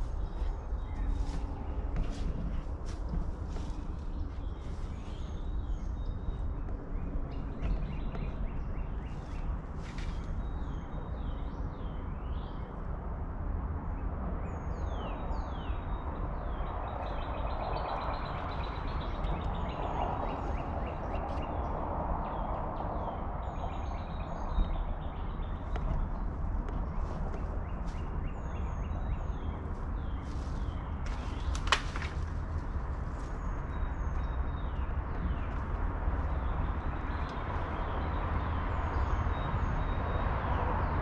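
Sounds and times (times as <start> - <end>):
small birds chirping: 0.0 - 12.7, 14.6 - 41.0
steady low rumble: 0.0 - 41.0.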